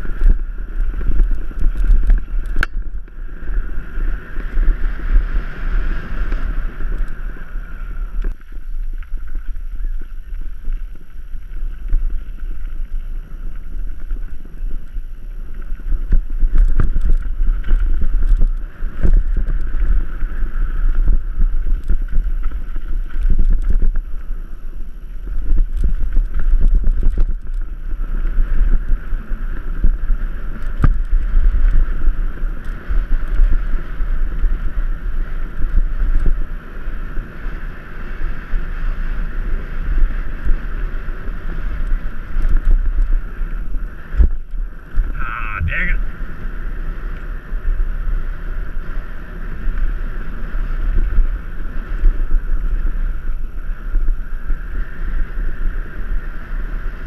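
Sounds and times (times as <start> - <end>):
bike rattling over bumps: 0.0 - 57.0
tyres on loose dirt: 0.0 - 57.0
wind buffeting microphone: 0.0 - 57.0.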